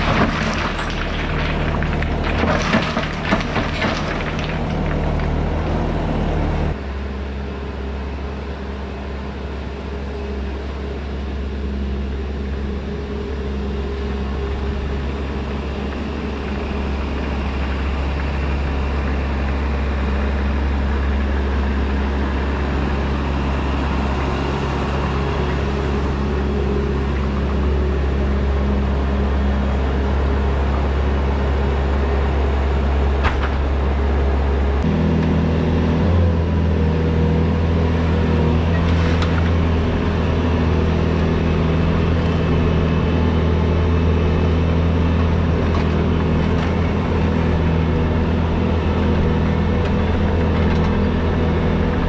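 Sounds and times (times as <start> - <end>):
loader engine running: 0.0 - 52.0.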